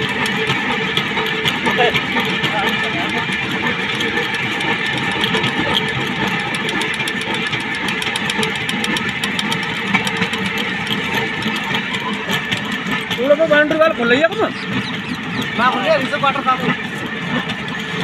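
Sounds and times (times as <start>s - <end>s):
rail trolley wheels rumbling: 0.0s - 18.0s.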